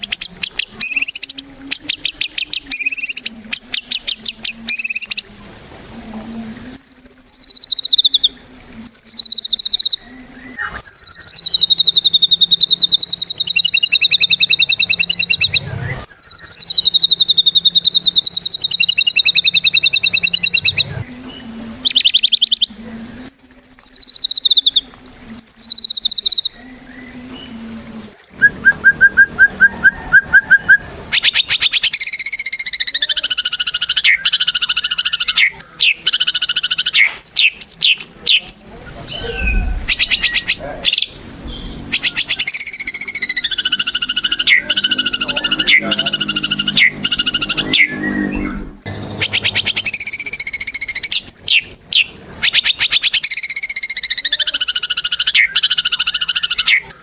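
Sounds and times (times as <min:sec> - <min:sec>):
bird singing trills and whistles: 0:00.0 - 0:05.4, 0:06.6 - 0:57.0.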